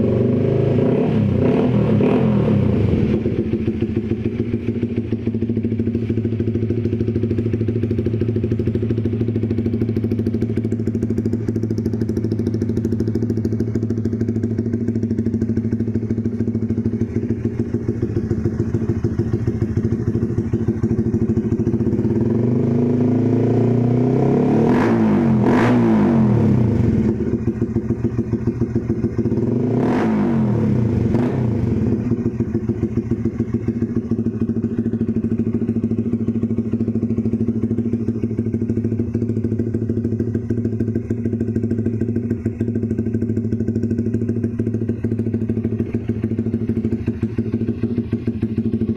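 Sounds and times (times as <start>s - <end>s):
motorcycle idling and revving: 0.0s - 48.9s.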